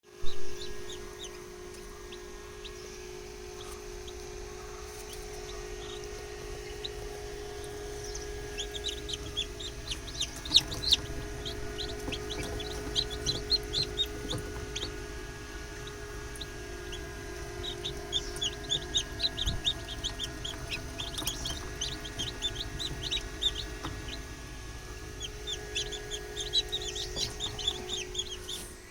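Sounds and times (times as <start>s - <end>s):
steady hum: 0.0s - 28.9s
chicks peeping: 0.1s - 28.9s.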